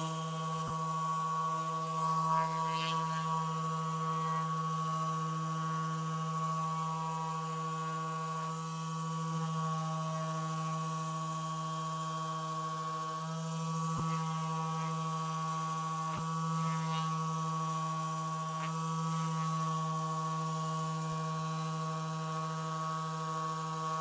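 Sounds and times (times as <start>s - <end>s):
electric massager humming: 0.0s - 24.0s.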